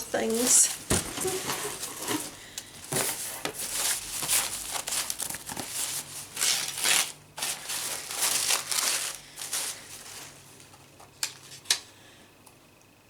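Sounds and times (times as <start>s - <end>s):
packaging crinkling and rustling: 0.3s - 11.9s.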